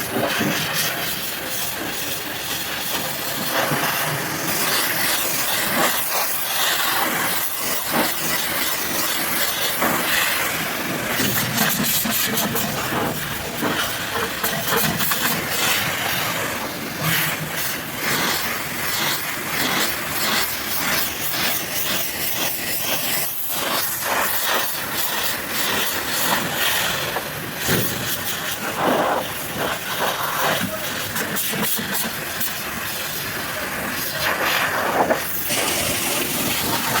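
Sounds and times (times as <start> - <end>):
pressure washer spraying water: 0.0 - 37.0.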